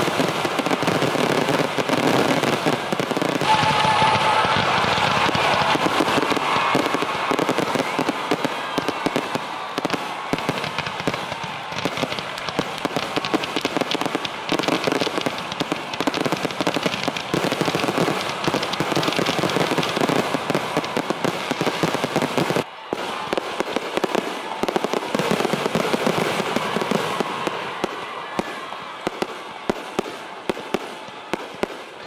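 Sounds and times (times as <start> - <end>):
fireworks crackling pops: 0.0 - 32.0.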